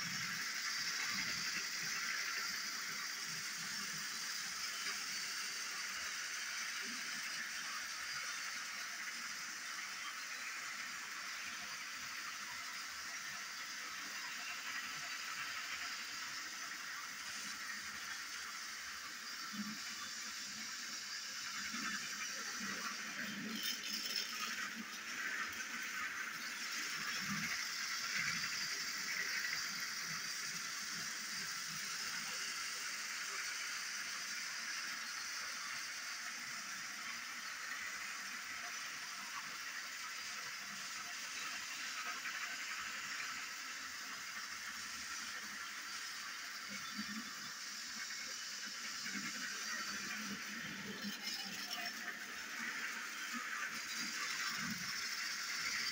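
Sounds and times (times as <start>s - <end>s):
toy train motor whirring: 0.0s - 55.9s
wheels clattering on plastic track: 0.0s - 55.9s.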